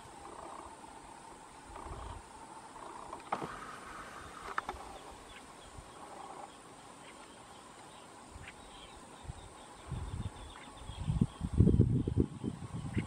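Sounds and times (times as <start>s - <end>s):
insects: 0.0s - 13.0s.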